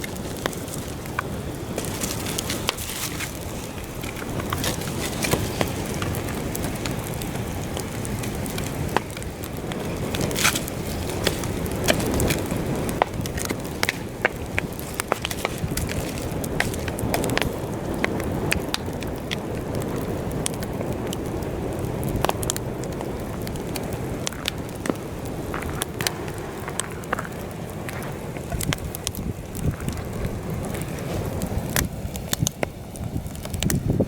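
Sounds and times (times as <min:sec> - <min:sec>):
campfire crackling and popping: 0:00.0 - 0:34.0
wind on microphone: 0:00.0 - 0:34.0.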